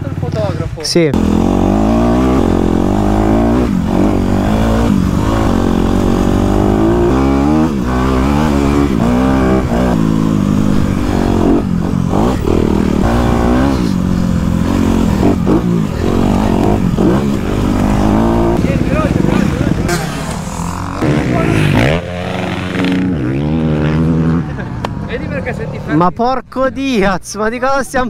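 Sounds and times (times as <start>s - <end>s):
dirt bike engine revving: 0.0s - 24.7s.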